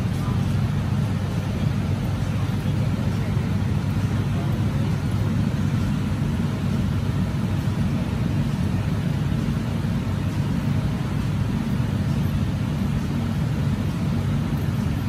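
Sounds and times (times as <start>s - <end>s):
metro station low rumble: 0.0s - 15.0s.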